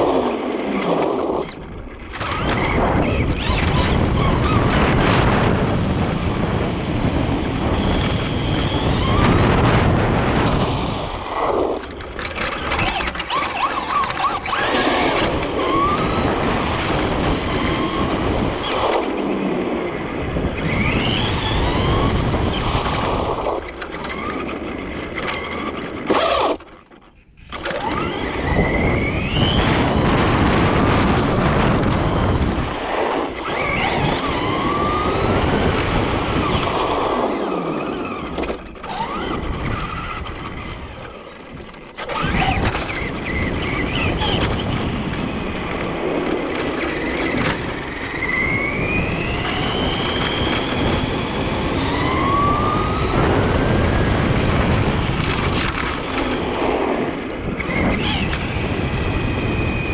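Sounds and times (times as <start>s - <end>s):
rc truck motor whining: 0.0s - 59.9s
wind noise: 0.0s - 59.9s.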